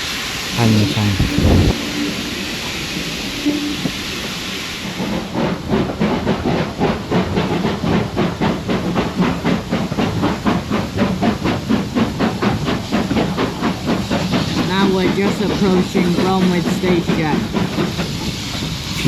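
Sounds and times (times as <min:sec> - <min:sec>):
steam hissing: 0:00.0 - 0:19.0
steam locomotive exhaust beats: 0:00.0 - 0:19.0.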